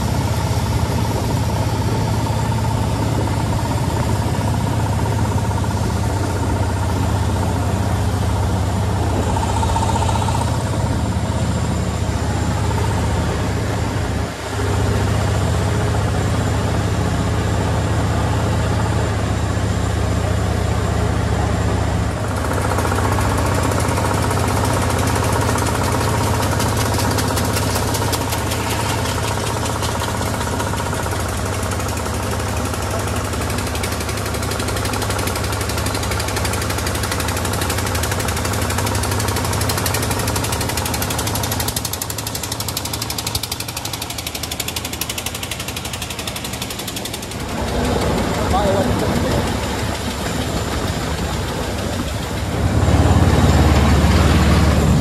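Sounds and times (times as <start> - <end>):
rapid ticking rattle: 0.0 - 12.9, 22.2 - 53.6
car engine running: 0.0 - 55.0.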